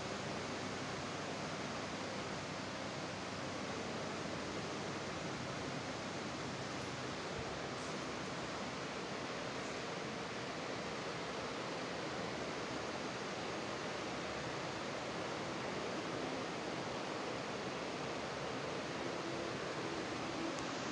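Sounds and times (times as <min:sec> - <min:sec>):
steady hiss: 0:00.0 - 0:20.9.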